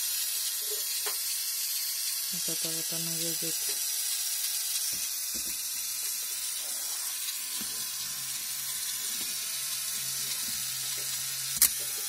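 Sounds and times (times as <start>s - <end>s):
toy motor whirring: 0.0s - 12.0s.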